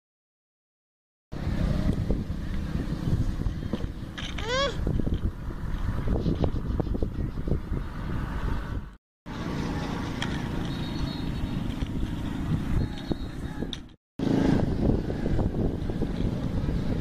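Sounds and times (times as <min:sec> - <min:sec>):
low outdoor rumble: 0:01.3 - 0:17.0.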